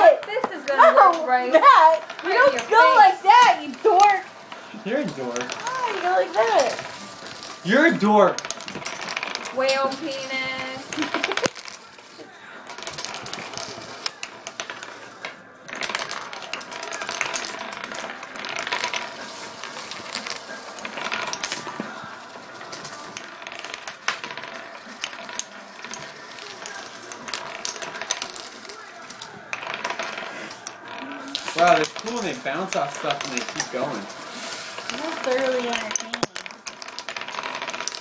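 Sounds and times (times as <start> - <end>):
wooden discs spinning rattling whir: 0.0 - 38.0.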